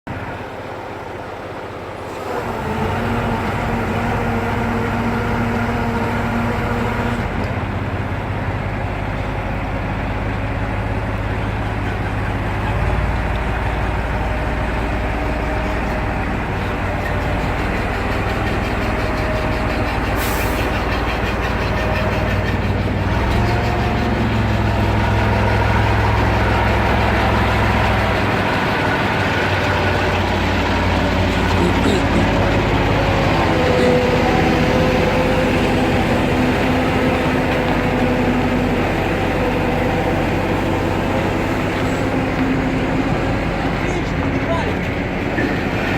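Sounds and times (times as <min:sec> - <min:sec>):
heavy diesel engine running: 0:00.1 - 0:45.9.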